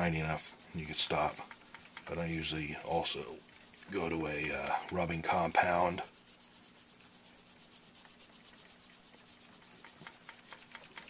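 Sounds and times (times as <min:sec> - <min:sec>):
rubbing strokes on metal: 0:00.0 - 0:11.0.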